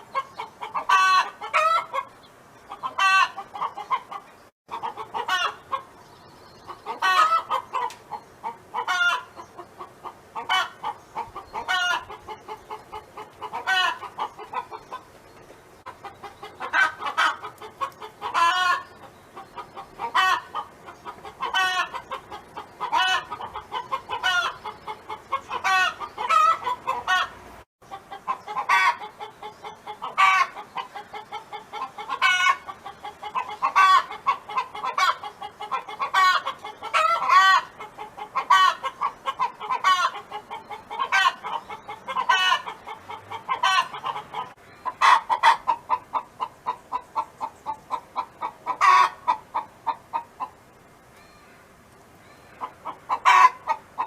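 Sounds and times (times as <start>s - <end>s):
hen clucking and cackling: 0.0s - 54.0s.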